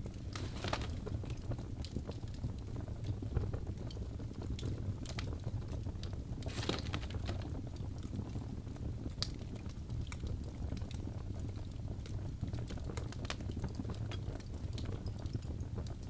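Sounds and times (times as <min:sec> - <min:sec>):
fire low rumble: 0:00.0 - 0:16.0
fire snaps and pops: 0:00.0 - 0:16.0.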